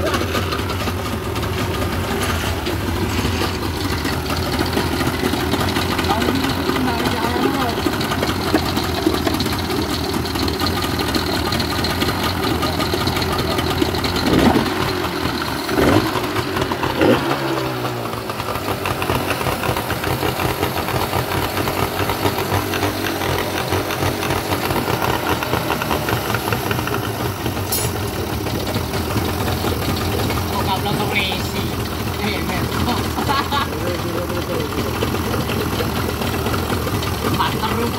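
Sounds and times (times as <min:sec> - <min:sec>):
engine idling and revving: 0:00.0 - 0:37.9.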